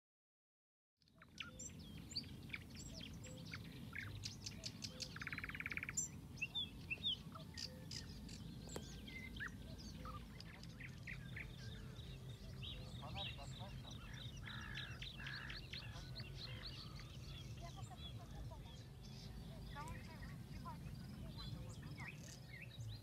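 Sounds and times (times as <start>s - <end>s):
songbirds chirping: 1.0s - 23.0s.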